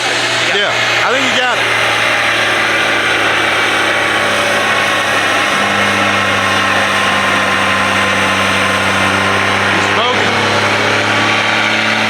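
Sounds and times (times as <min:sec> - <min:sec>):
pickup truck engine droning: 0:00.0 - 0:12.0.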